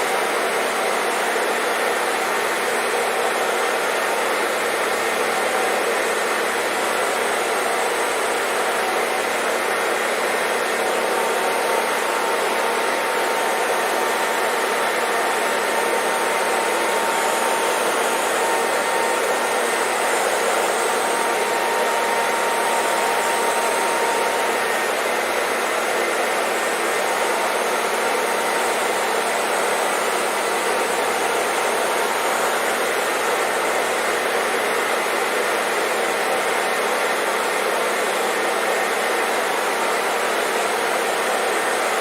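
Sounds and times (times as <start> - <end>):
hair dryer running: 0.0 - 42.0.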